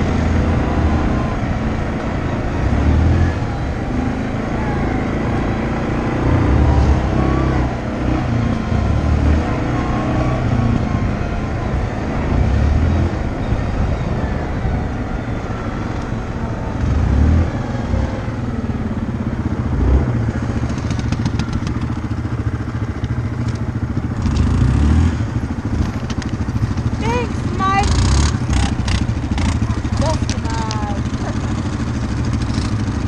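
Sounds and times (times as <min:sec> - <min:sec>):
atv engine rumble: 0:00.0 - 0:33.0.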